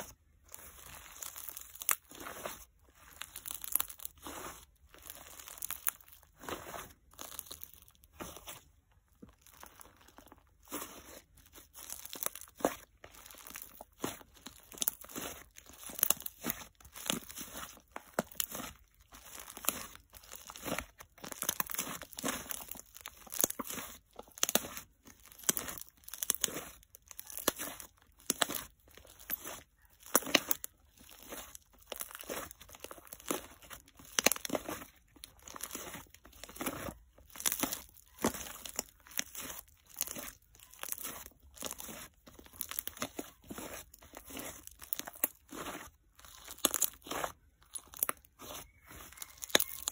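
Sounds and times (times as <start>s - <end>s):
slime crackling and squishing: 0.0s - 49.9s.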